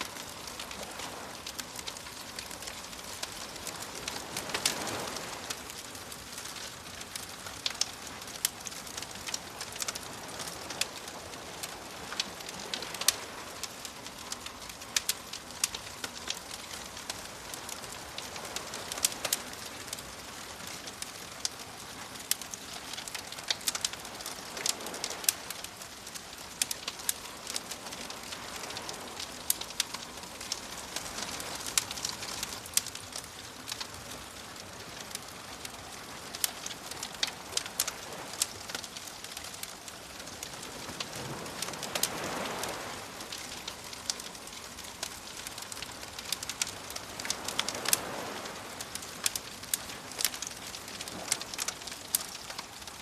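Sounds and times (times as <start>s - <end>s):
waves washing: 0.0s - 53.0s
wood fire crackling: 0.0s - 53.0s.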